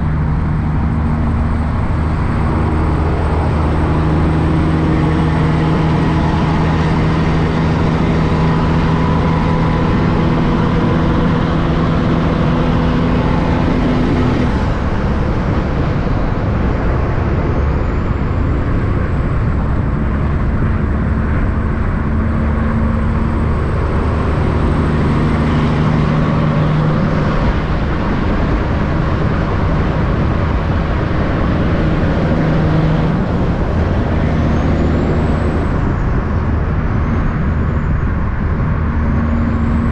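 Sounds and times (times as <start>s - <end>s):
road traffic noise: 0.0s - 39.9s
truck diesel engines passing: 0.0s - 39.9s.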